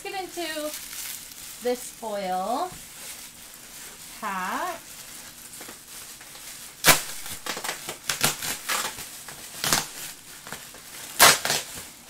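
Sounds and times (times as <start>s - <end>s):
foil pouch crinkling: 0.0s - 12.0s.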